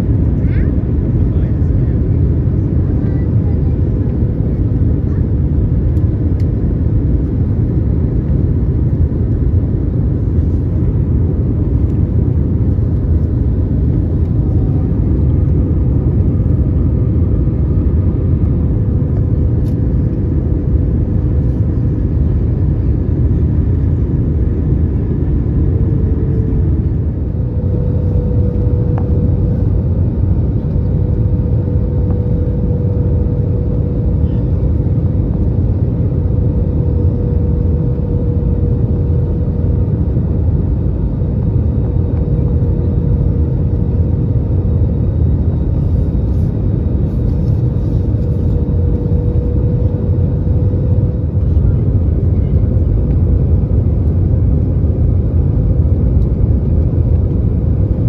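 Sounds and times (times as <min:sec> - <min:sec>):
constant hum: 0:00.0 - 0:58.0
rumble of airflow and engines: 0:00.0 - 0:58.0.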